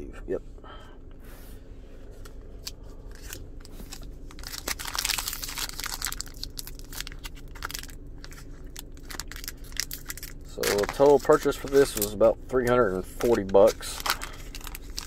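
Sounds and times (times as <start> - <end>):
foil wrappers crinkling and tearing: 2.6 - 15.0.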